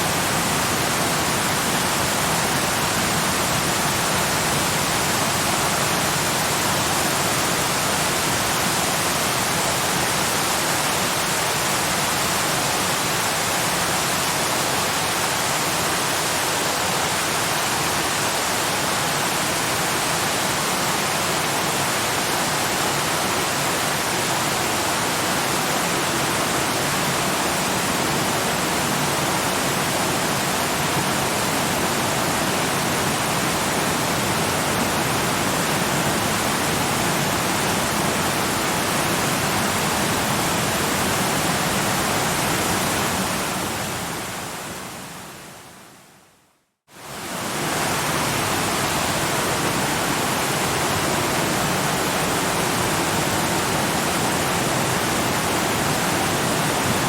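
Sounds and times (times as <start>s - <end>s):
waterfall rushing: 0.0s - 45.4s, 47.0s - 57.0s.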